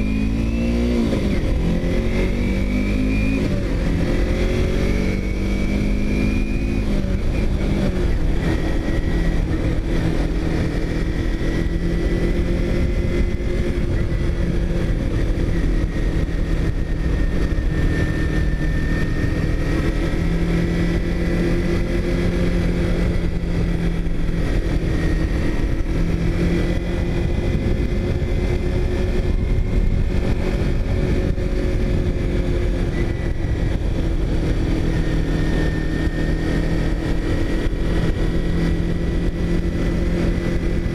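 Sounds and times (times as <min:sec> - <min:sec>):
vehicle engine cruising: 0:00.0 - 0:40.9.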